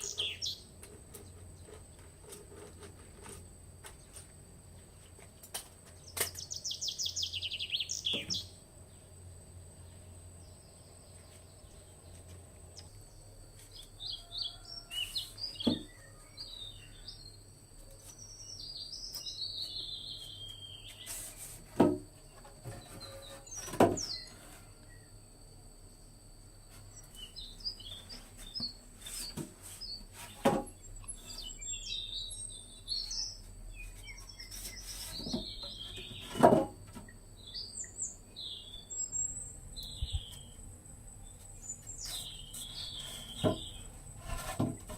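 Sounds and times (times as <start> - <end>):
forest birds chirping: 0.0 - 2.4, 5.8 - 21.4, 22.2 - 44.9.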